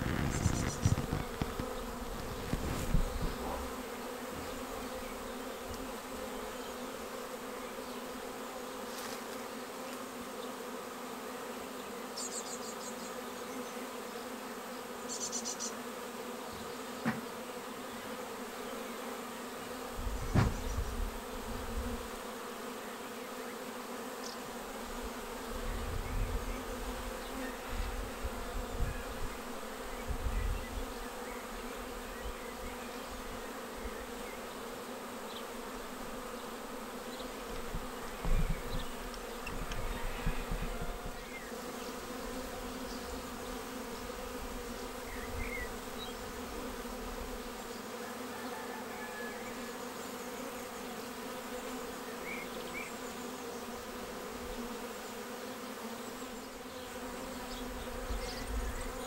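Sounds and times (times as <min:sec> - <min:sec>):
honeybee swarm buzzing: 0:00.0 - 0:59.0.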